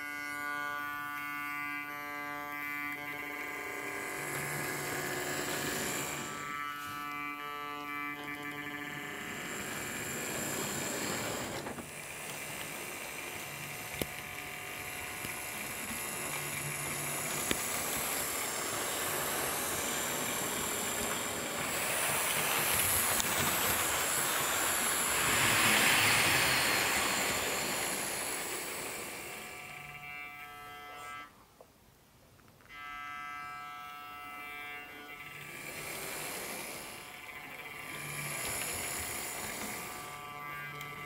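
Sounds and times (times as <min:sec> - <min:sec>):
model train motor whirring: 0:00.0 - 0:31.4, 0:32.6 - 0:41.0.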